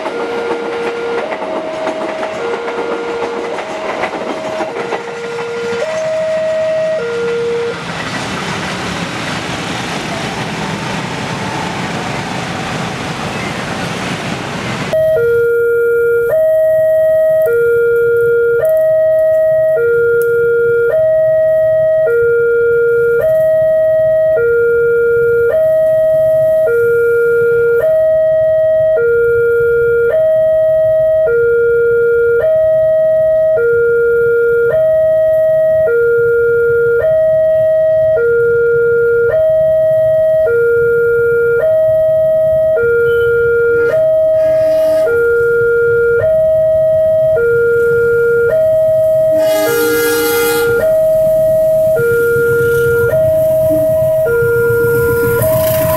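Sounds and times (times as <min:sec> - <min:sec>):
level crossing alarm tones: 0:00.0 - 0:08.4, 0:14.9 - 0:55.9.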